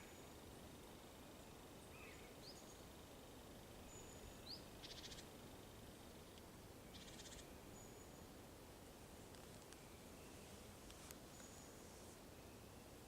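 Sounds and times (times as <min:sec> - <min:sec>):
songbird chirps and trills: 0:00.0 - 0:13.0
steady hiss: 0:00.0 - 0:13.0.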